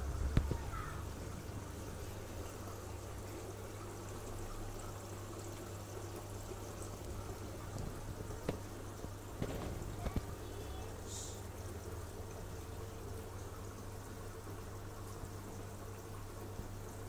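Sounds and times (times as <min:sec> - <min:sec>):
filter water trickling into tank: 0:00.0 - 0:17.0
low steady hum: 0:00.0 - 0:17.0.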